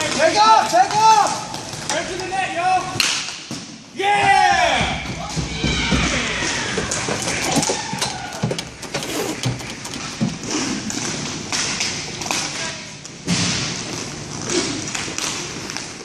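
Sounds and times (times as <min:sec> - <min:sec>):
hockey sticks and puck tapping: 0:00.0 - 0:16.0.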